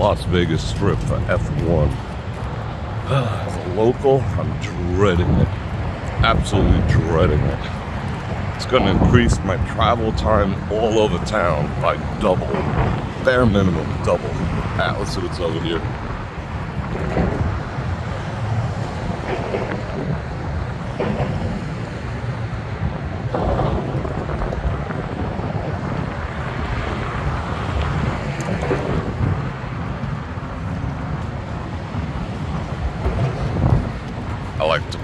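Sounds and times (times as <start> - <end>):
passing street traffic: 0.0 - 35.0
wind buffeting microphone: 0.0 - 35.0.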